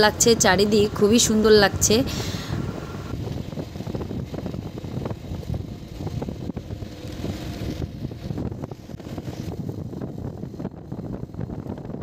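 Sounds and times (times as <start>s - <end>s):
vehicle rumble: 0.0s - 12.0s
wind buffeting microphone: 0.0s - 12.0s.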